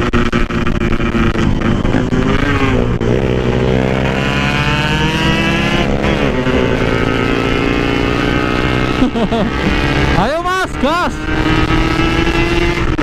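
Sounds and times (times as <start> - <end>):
two-stroke motorcycle engine: 0.0 - 13.0.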